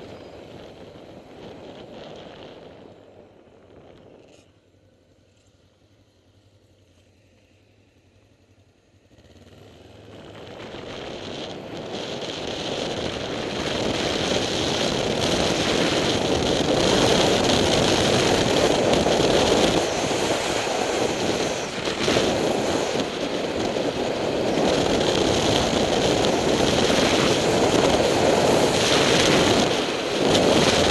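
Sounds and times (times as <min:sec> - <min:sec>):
wind rushing over microphone: 0:00.0 - 0:04.3, 0:09.5 - 0:30.9
motorcycle engine and road noise: 0:00.0 - 0:30.9.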